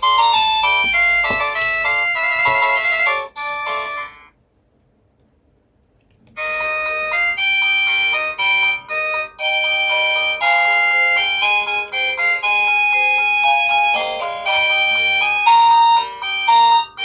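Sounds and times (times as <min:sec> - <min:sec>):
electronic doorbell chime melody: 0:00.0 - 0:04.3, 0:06.4 - 0:17.0.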